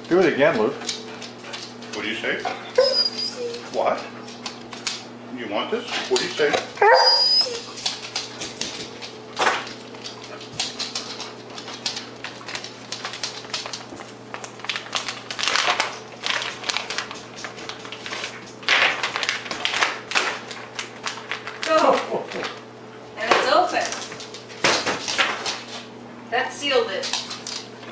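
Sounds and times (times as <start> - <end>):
dog claws clicking on floor: 0.0 - 5.2, 5.8 - 25.9, 26.6 - 27.9.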